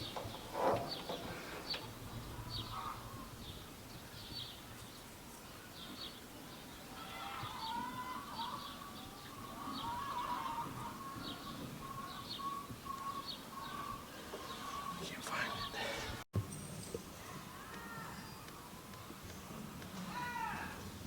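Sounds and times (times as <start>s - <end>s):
birds chirping: 0.0s - 19.6s
lower wavering birdsong: 0.0s - 21.0s.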